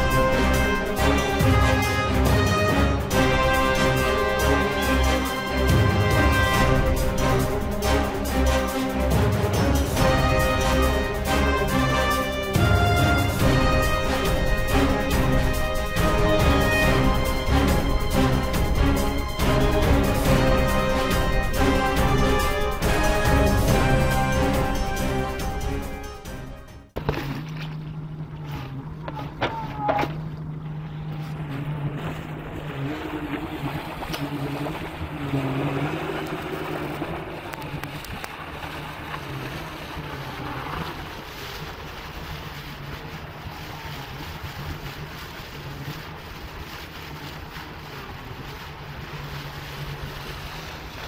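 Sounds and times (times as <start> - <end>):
wind and water rushing: 0.0 - 26.4, 29.6 - 51.0
excavator diesel engine droning: 0.0 - 51.0.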